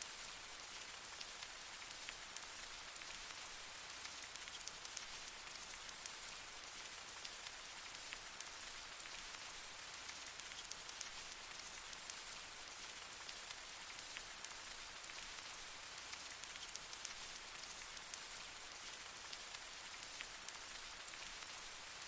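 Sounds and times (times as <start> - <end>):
light rain on leaves: 0.0 - 22.0.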